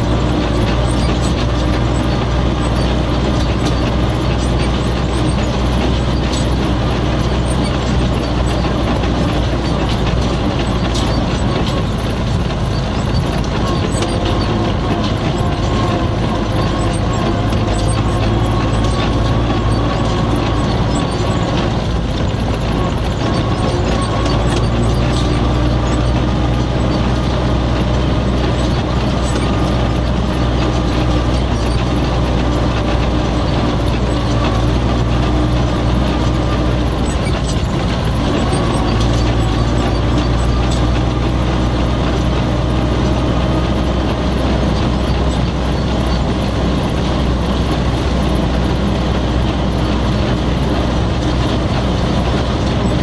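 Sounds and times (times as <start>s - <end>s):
cab rattling: 0.0s - 53.0s
tractor diesel engine running: 0.0s - 53.0s.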